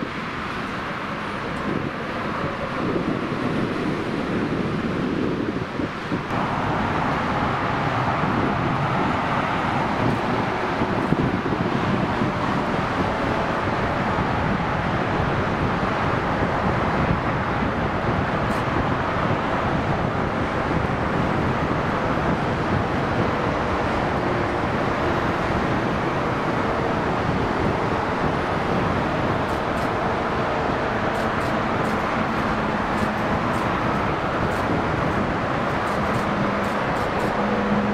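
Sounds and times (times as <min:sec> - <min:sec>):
jet engines taxiing: 0:00.0 - 0:37.9
motorway traffic passing: 0:00.0 - 0:37.9.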